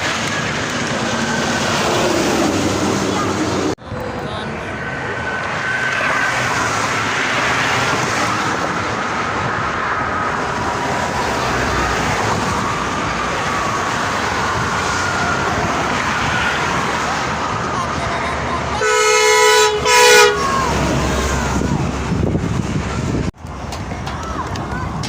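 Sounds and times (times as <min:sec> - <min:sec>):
highway traffic passing: 0:00.0 - 0:25.0.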